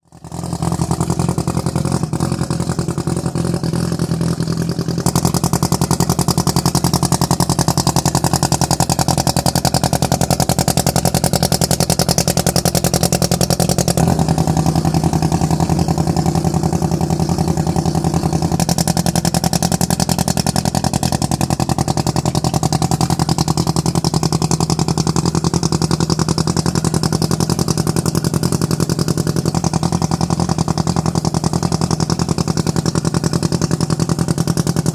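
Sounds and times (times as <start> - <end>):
rotary engine idling: 0.1 - 34.9.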